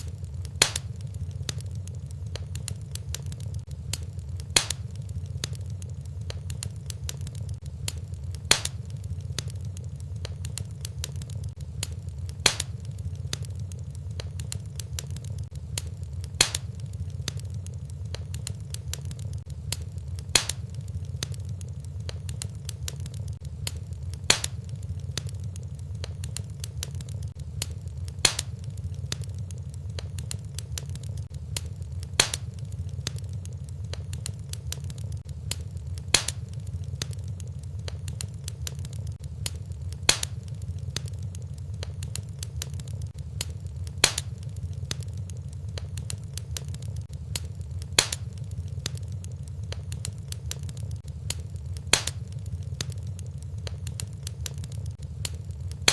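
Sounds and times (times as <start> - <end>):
low rumble of flame: 0.0 - 55.9
small fire crackles: 0.0 - 55.9.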